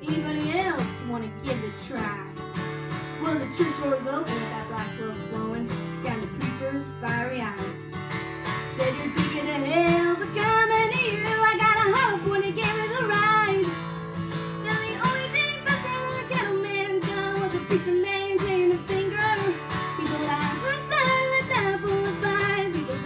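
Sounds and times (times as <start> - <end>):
girl singing slow song: 0.0 - 2.5, 3.1 - 23.0
strummed acoustic guitar: 0.0 - 23.0.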